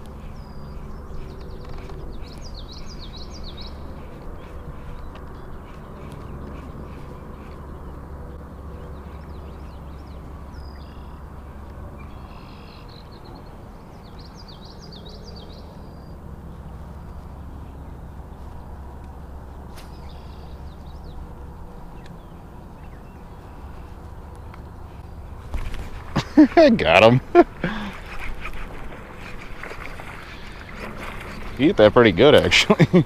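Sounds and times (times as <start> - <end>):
birds chirping: 0.0 - 33.0
steady low hum: 0.0 - 33.0.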